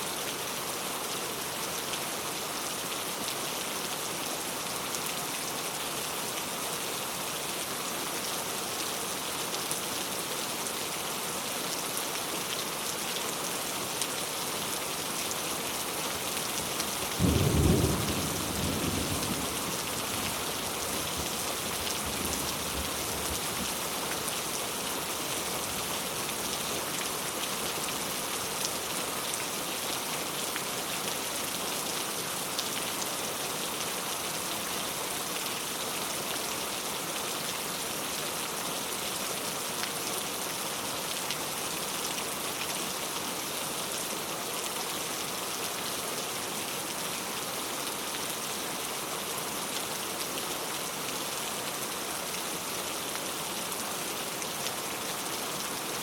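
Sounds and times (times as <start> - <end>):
heavy rain falling: 0.2 - 56.0.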